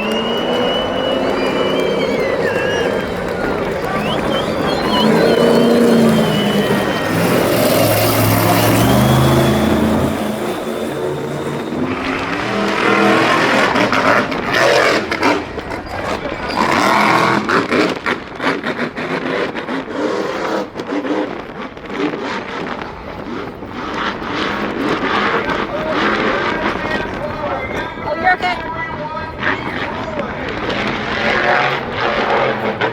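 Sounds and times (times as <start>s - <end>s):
vehicle engines revving hard: 0.0s - 32.9s.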